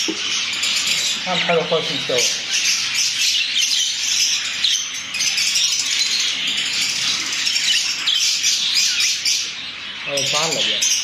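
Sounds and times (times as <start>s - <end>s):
budgerigars chattering: 0.0s - 11.0s.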